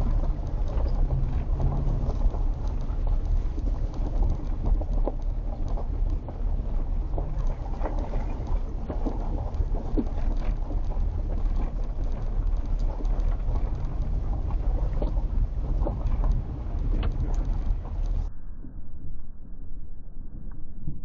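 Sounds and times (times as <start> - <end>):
car engine and tyres rumbling: 0.0 - 18.3
small ticks and crackles: 0.0 - 18.3.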